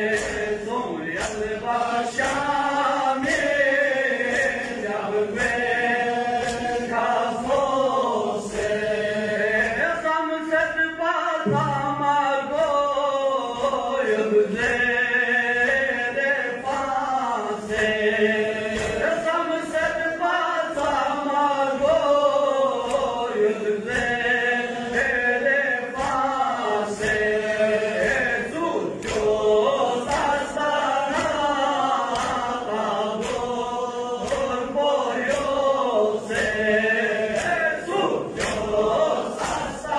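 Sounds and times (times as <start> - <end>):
steady beat of sharp strikes: 0.0 - 10.8, 11.4 - 39.9
men chanting a mourning lament: 0.0 - 39.9.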